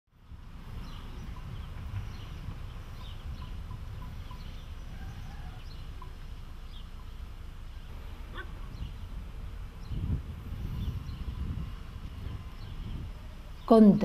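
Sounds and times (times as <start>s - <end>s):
low outdoor rumble: 0.1s - 14.0s
small birds chirping: 0.2s - 14.0s
rising bird call: 0.8s - 13.7s.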